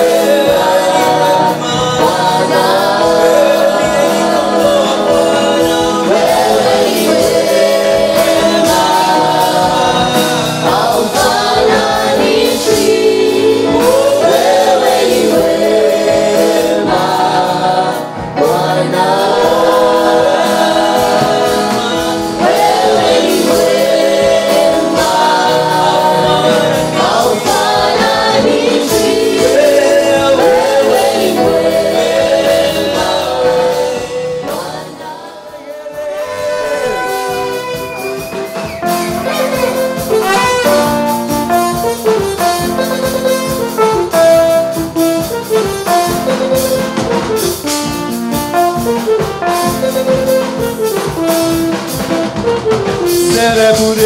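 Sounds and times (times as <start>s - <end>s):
gospel singing with instruments: 0.0s - 54.0s.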